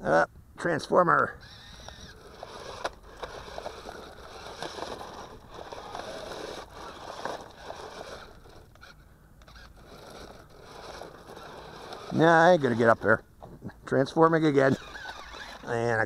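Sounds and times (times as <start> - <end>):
toy tyres crunching on stones: 1.4 - 16.0.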